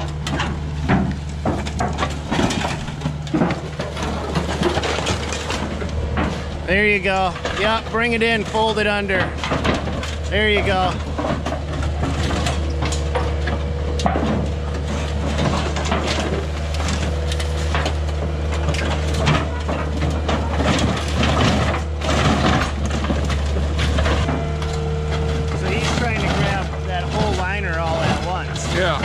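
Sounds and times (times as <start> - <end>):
debris cracking and crunching: 0.0 - 29.0
loader engine running: 0.0 - 29.0.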